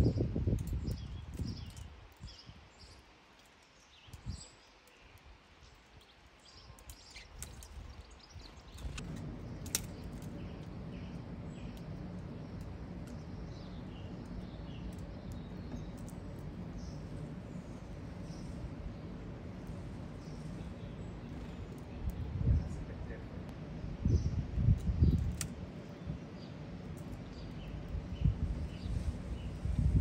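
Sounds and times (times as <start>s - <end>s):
steady low rumble: 0.0s - 2.4s, 7.4s - 30.0s
small birds chirping: 0.0s - 30.0s.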